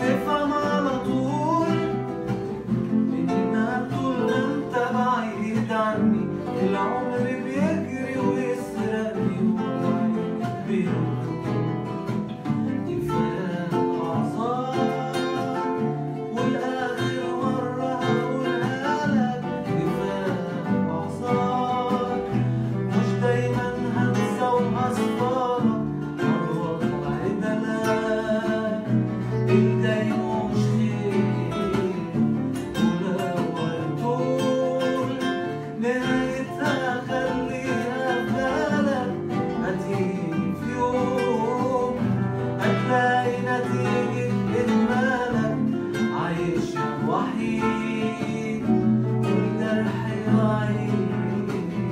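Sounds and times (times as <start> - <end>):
acoustic guitars strumming: 0.0 - 51.9
man singing: 0.0 - 51.9.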